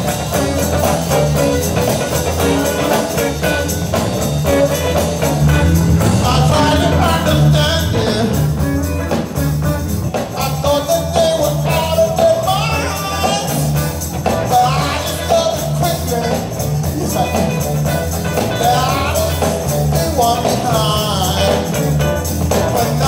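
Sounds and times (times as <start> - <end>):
bass line: 0.0 - 23.0
drum kit: 0.0 - 23.0
electric guitar: 0.0 - 23.0
keyboard: 0.0 - 23.0
maraca: 0.0 - 23.0
tambourine: 0.0 - 23.0.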